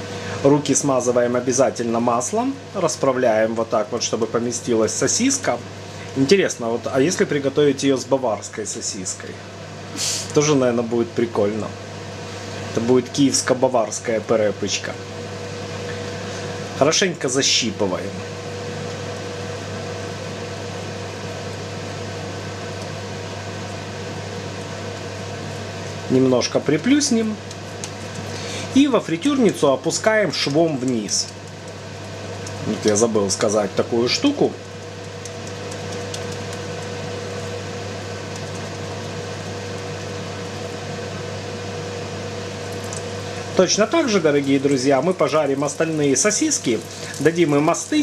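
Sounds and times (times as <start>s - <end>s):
appliance fan motor humming: 0.0s - 48.0s.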